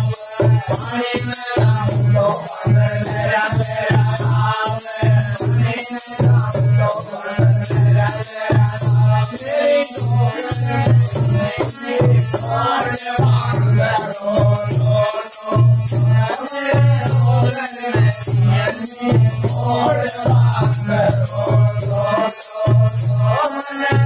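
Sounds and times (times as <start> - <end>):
harmonium: 0.0 - 24.0
men singing folk song: 0.0 - 24.0.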